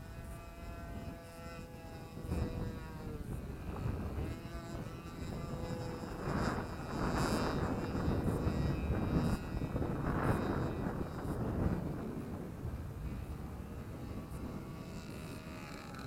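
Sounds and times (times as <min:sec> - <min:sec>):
model airplane engine droning: 0:00.0 - 0:16.0
wind gusts on microphone: 0:00.0 - 0:16.0.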